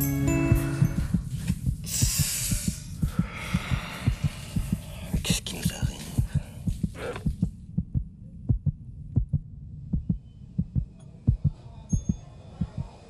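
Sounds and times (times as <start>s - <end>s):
heartbeat low thumps: 0.0s - 13.0s.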